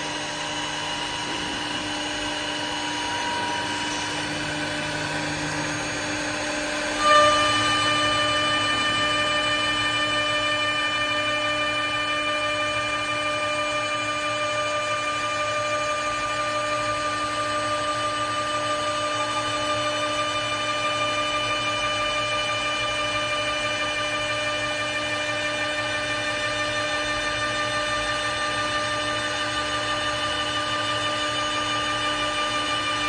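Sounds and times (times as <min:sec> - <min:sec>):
lathe spindle high whine: 0:00.0 - 0:33.0.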